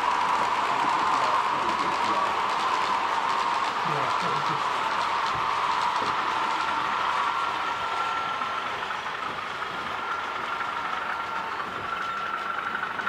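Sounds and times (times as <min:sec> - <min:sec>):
model train whine: 0:00.0 - 0:13.0.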